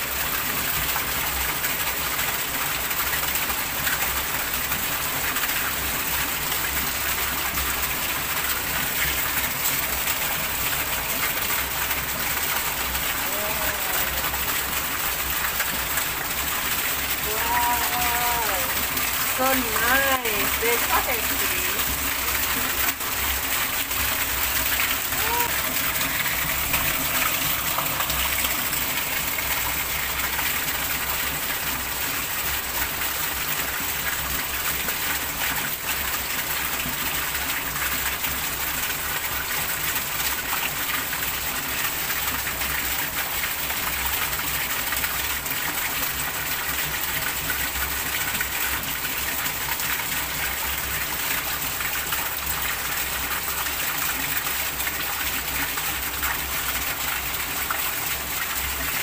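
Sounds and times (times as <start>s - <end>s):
heavy rain on pond water: 0.0s - 59.0s.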